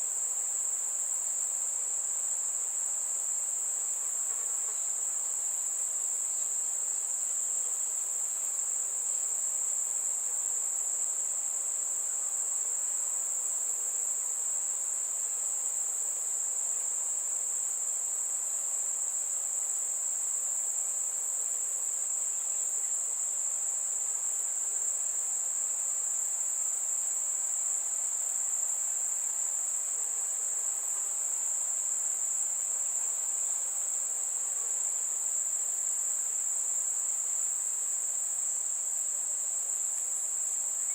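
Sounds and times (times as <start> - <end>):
faint hiss: 0.0 - 40.9
crickets trilling: 0.1 - 40.9.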